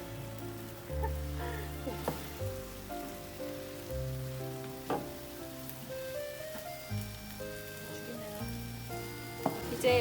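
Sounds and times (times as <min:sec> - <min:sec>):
background music with sustained notes: 0:00.0 - 0:10.0
food sizzling in a frying pan: 0:00.0 - 0:10.0.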